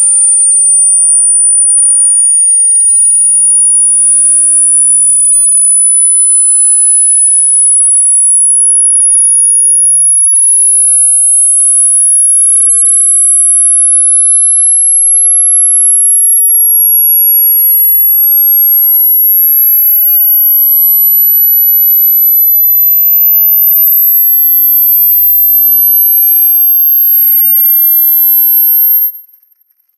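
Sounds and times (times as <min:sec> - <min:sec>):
high-pitched electronic sine tone: 0:00.0 - 0:29.9.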